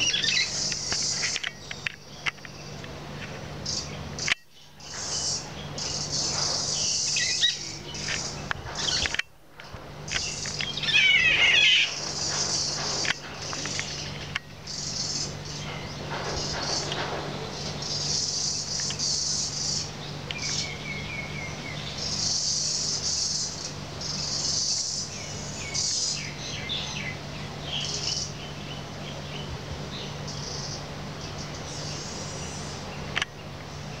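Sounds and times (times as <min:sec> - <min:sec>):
birds singing trilled phrases: 0:00.0 - 0:02.8, 0:03.6 - 0:09.3, 0:10.0 - 0:34.0.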